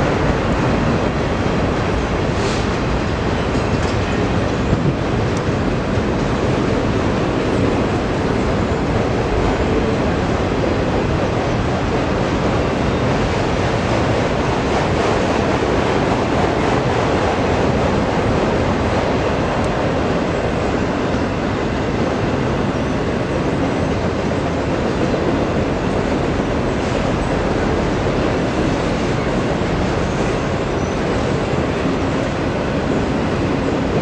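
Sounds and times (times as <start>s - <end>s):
freight train rumbling by: 0.0s - 34.0s.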